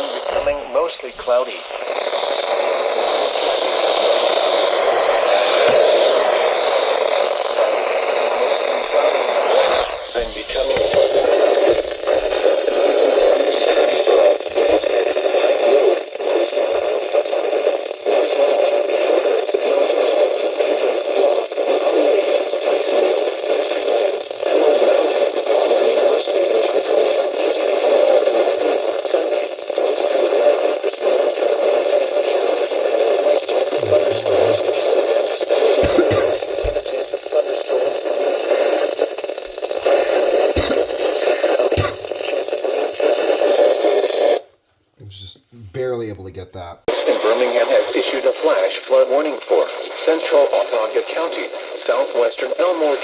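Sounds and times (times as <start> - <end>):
radio static hiss: 0.0 - 53.0.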